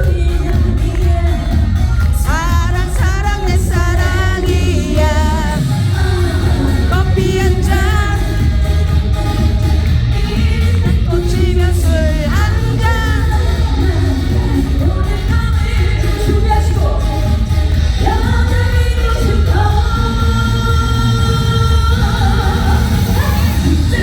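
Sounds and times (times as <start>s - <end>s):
backing track with heavy bass: 0.0s - 24.0s
woman singing: 0.0s - 24.0s.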